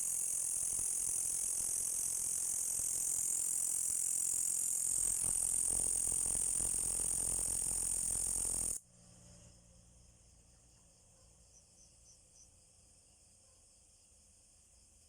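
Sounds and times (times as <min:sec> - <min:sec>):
faint insect chorus: 0:00.0 - 0:15.0
insect high-pitched buzzing: 0:00.0 - 0:15.0.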